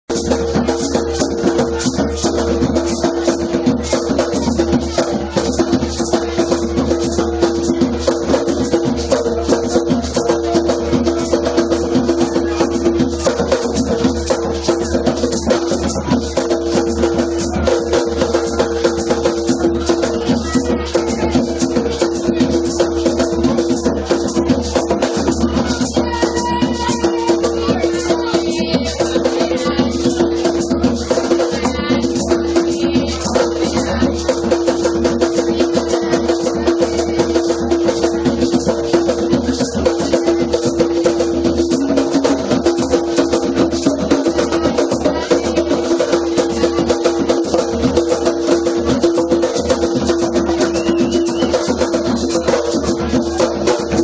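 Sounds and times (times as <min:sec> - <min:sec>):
drums: 0:00.1 - 0:54.0.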